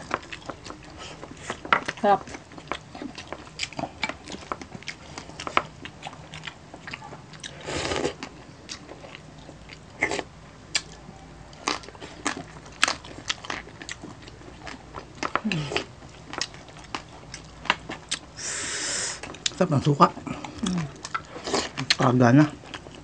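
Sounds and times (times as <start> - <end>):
crunching and chewing crispy skin: 0.0 - 18.4, 19.2 - 23.0.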